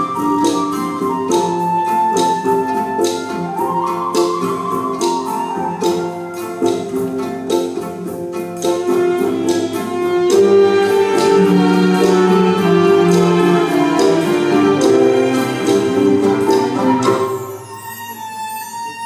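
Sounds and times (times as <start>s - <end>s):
orchestra playing: 0.0s - 19.0s.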